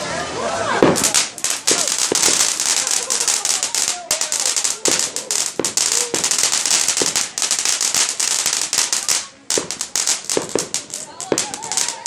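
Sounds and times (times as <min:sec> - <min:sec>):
fireworks whistling squeals: 0:00.6 - 0:12.0
fireworks crackling pops: 0:00.7 - 0:12.0.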